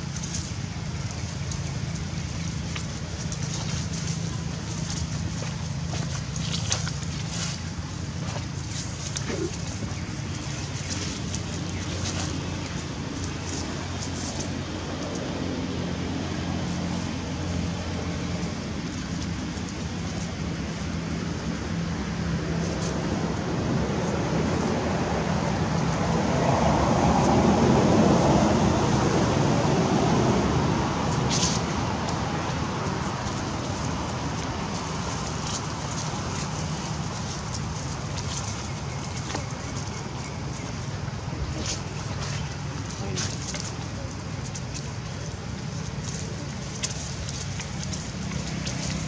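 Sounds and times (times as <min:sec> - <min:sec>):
steady rumbling background noise: 0:00.0 - 0:49.0.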